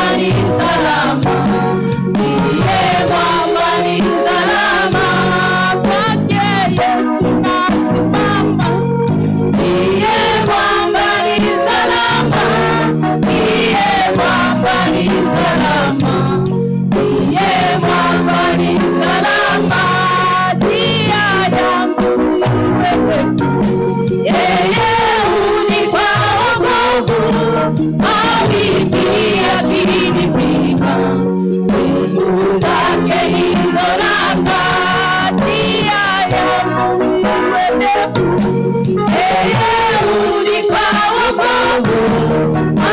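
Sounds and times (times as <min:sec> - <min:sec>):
group singing praise song: 0:00.0 - 0:42.9
instrumental backing: 0:00.0 - 0:42.9.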